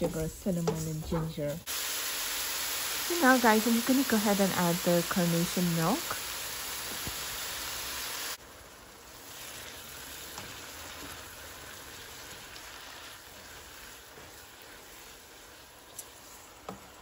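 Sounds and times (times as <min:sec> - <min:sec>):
milk sizzling in a pan: 0:00.0 - 0:17.0.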